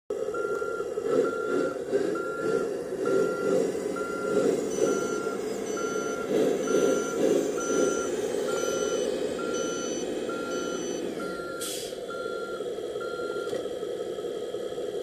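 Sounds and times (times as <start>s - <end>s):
truck engine rumble: 0.1s - 15.0s
reversing beeper: 0.3s - 13.6s.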